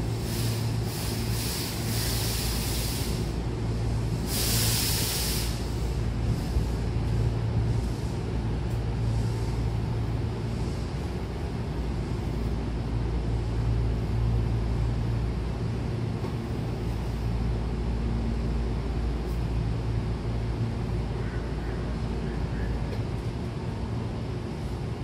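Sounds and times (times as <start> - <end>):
low hum of standing trains: 0.0 - 25.0.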